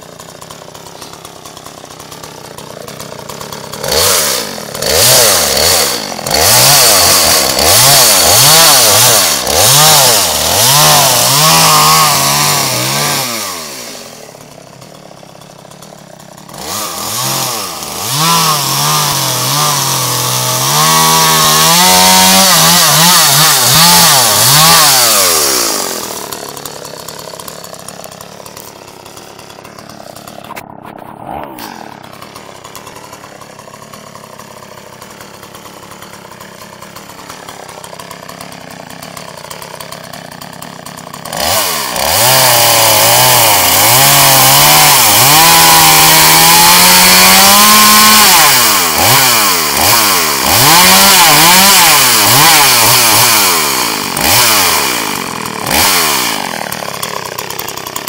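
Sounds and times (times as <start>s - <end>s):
chainsaw idling: 0.0s - 30.7s, 31.4s - 58.0s
chainsaw revving and cutting logs: 0.0s - 58.0s.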